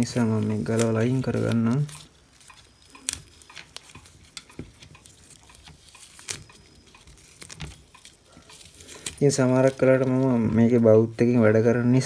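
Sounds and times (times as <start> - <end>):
small parts clicking and tapping: 0.1 - 10.3.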